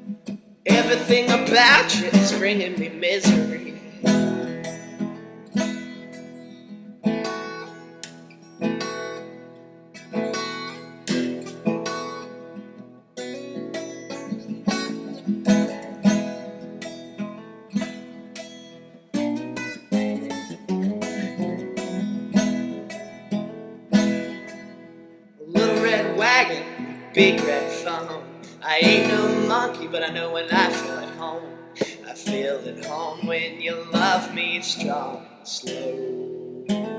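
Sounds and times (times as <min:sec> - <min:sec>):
acoustic guitar playing: 0:00.0 - 0:36.9.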